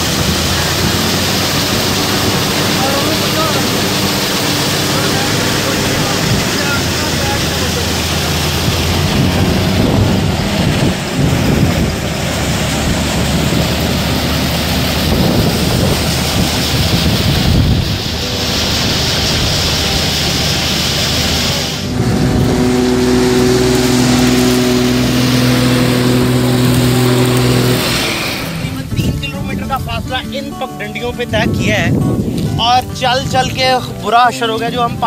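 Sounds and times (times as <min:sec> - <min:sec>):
farm machinery engine running: 0:00.0 - 0:35.0.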